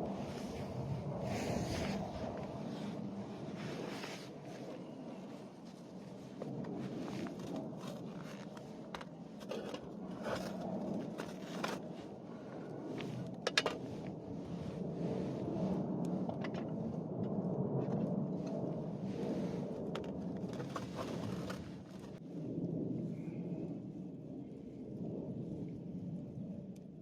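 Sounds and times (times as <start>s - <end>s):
campfire flames rushing: 0.0s - 26.8s.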